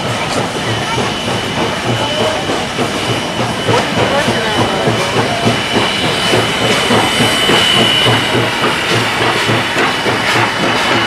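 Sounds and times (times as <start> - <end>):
train rumbling over viaduct: 0.0 - 11.0.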